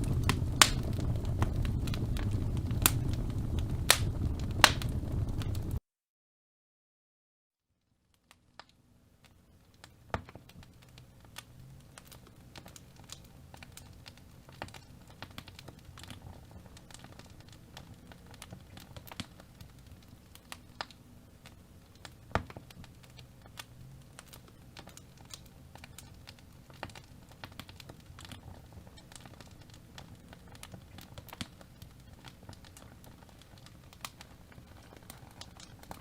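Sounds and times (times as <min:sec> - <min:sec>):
low rumble of flames: 0:00.0 - 0:05.8, 0:09.2 - 0:36.0
wood fire crackling and popping: 0:00.0 - 0:05.8, 0:08.1 - 0:36.0.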